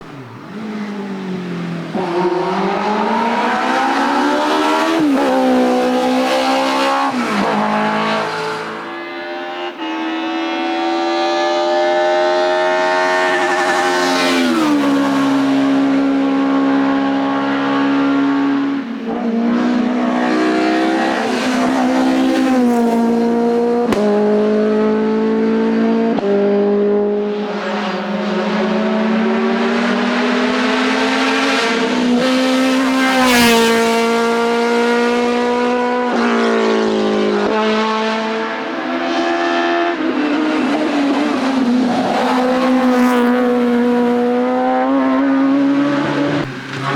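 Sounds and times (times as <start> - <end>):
race car engine at full throttle: 0.0 - 46.9.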